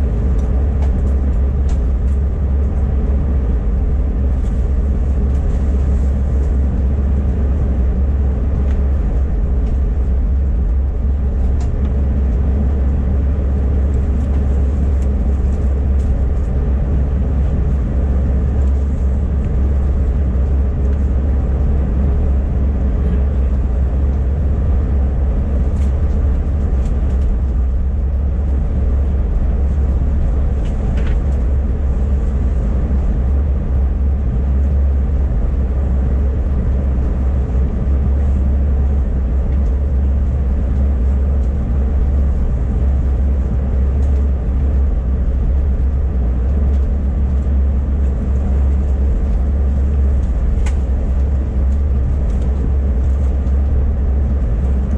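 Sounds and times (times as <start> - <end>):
aircraft cabin drone: 0.0 - 54.9.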